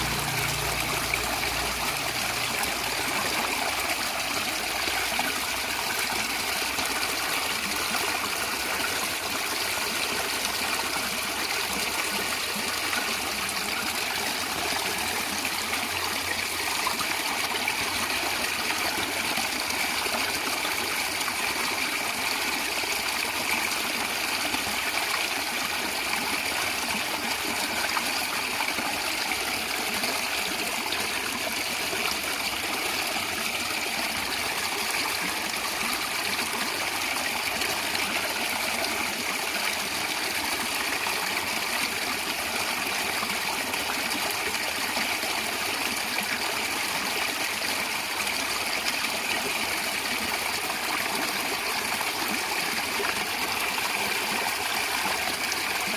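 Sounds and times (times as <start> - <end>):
stream gurgling over rocks: 0.0 - 55.9.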